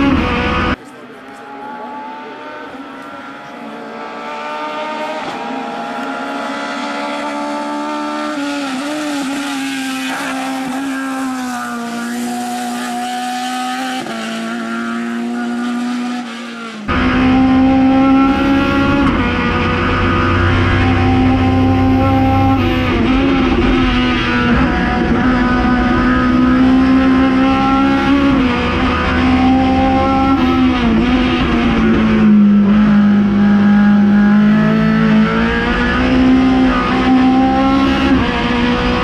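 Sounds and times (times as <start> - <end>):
race car engine at high revs: 0.0 - 39.0.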